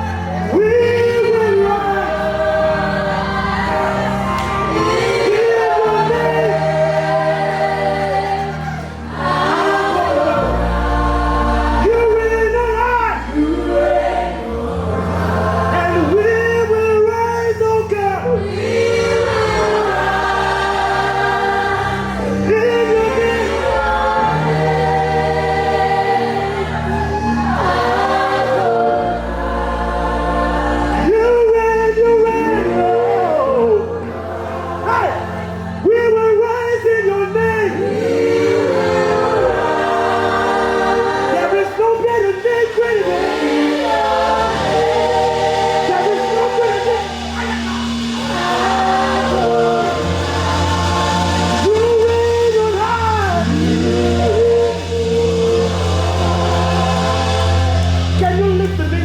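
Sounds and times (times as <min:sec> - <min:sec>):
bass-heavy sustained chords: 0:00.0 - 0:59.0
choir singing gospel: 0:00.0 - 0:59.0.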